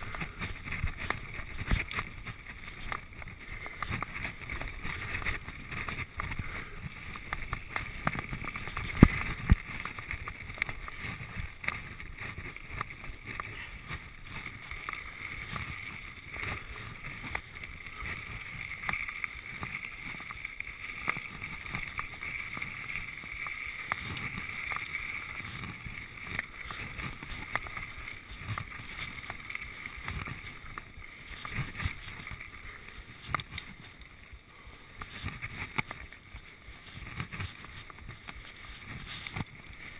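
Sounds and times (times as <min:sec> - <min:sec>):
bike rattling and knocking: 0:00.0 - 0:34.0
bike tyre rumble: 0:00.0 - 0:39.9.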